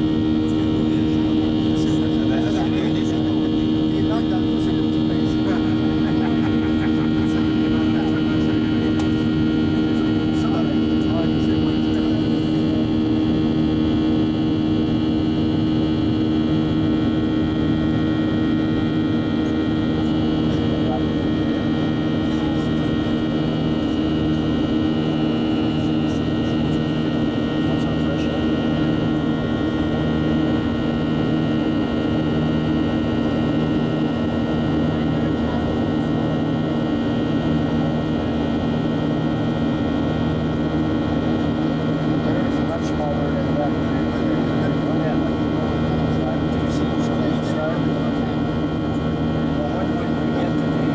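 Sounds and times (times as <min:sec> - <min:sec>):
jet engines droning: 0:00.0 - 0:50.9
steady humming tones: 0:00.0 - 0:50.9.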